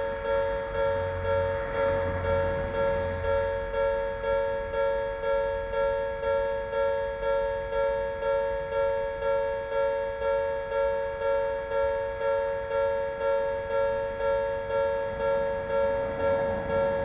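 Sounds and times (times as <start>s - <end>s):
level crossing warning alarm: 0.0s - 17.0s.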